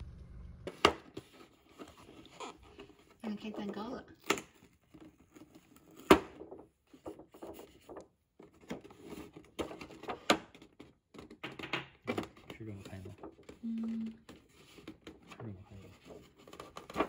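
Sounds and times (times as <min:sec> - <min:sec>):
cardboard rustling: 0:00.6 - 0:11.4, 0:12.1 - 0:17.0.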